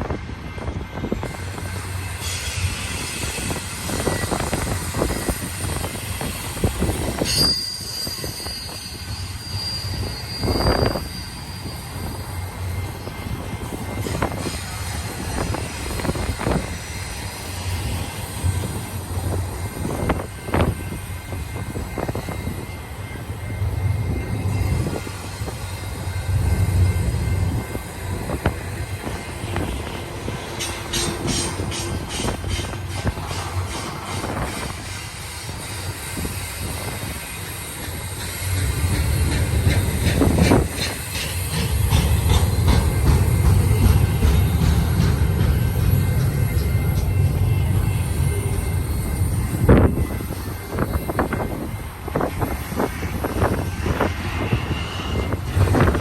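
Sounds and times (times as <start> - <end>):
freight train cars rolling: 0.0 - 56.0
steel wheels squealing on rail: 0.0 - 56.0
train clanks and knocks: 0.0 - 56.0
train rumbling surge: 0.0 - 56.0.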